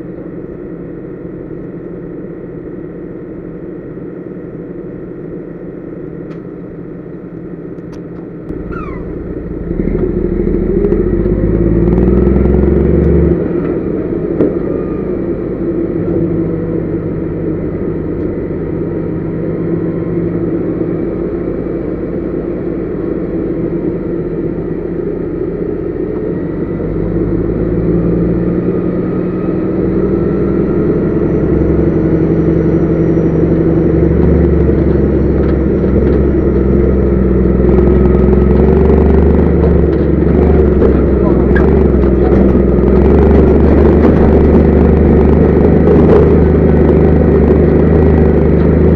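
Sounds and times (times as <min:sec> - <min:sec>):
truck diesel engine under load: 0:00.0 - 0:48.9.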